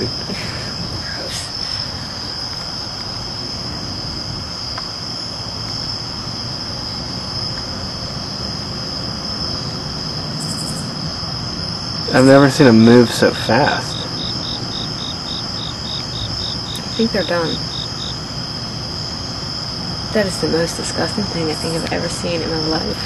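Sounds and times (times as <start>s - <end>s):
background hiss: 0.0s - 23.0s
crickets trilling: 0.0s - 23.0s.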